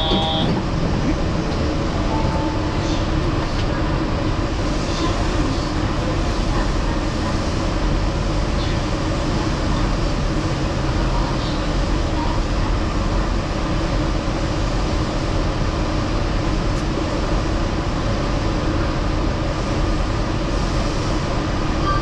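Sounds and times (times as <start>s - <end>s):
rubber-tyred train running: 0.0s - 22.0s.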